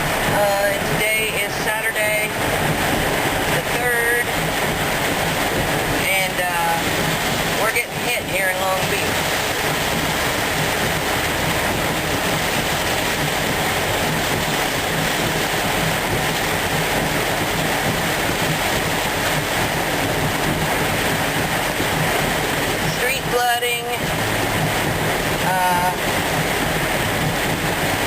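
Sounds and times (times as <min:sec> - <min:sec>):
rain beating on a car: 0:00.0 - 0:28.0.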